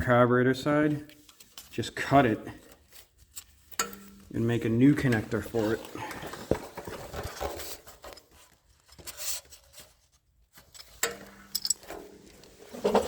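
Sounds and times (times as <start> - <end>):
hands and tools rubbing and scraping: 1.1 - 11.0, 11.6 - 13.0.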